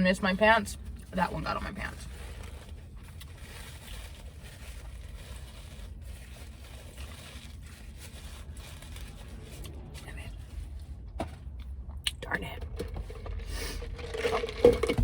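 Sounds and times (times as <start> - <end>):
car cabin rumble and hiss: 0.0 - 13.4.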